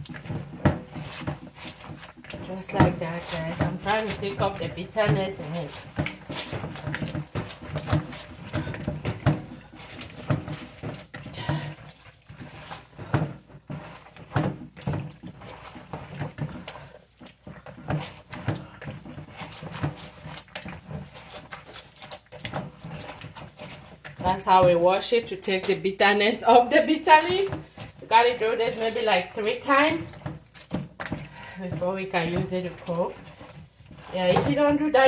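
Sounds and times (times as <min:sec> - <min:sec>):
hands squelching wet leaves: 0:00.0 - 0:35.0.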